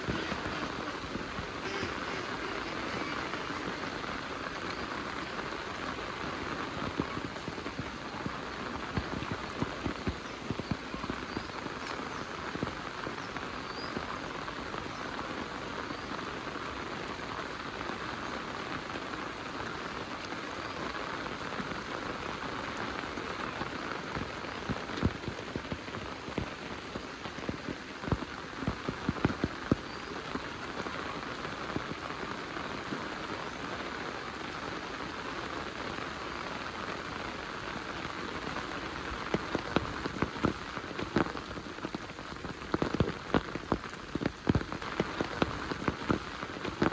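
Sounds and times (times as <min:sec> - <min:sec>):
heavy rain falling: 0:00.0 - 0:46.9
sharp rain taps: 0:00.0 - 0:46.9.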